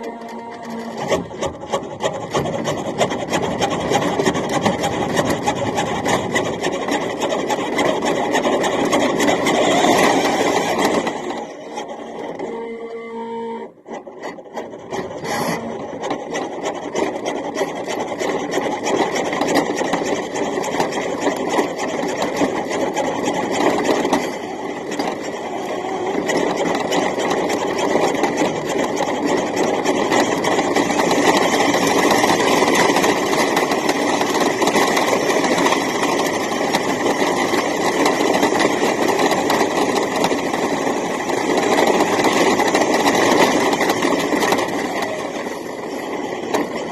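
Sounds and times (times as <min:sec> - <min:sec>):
wheels rattling over ground: 0:00.0 - 0:12.7, 0:13.8 - 0:46.9
toy truck motor whine: 0:00.0 - 0:46.9.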